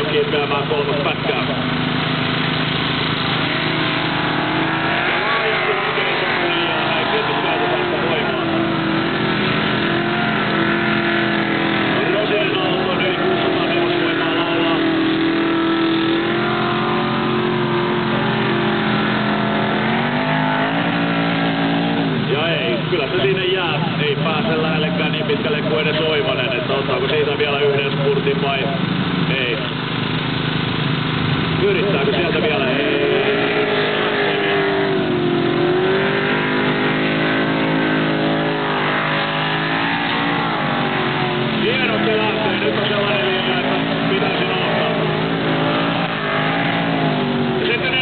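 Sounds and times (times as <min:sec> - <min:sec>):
car engine running hard: 0:00.0 - 0:48.0.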